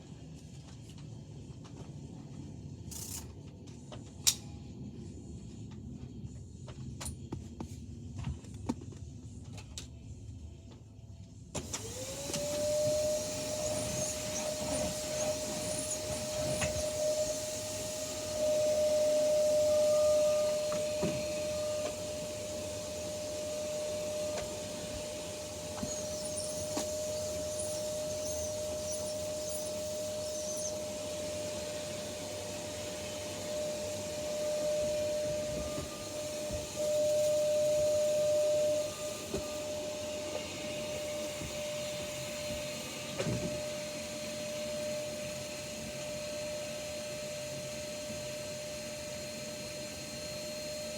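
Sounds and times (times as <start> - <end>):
vacuum cleaner motor whine: 8.1 - 50.9.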